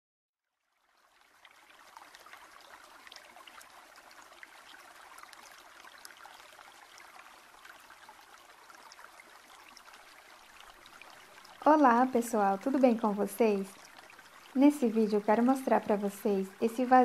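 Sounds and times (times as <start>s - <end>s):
trickle of running water: 0.5s - 17.0s.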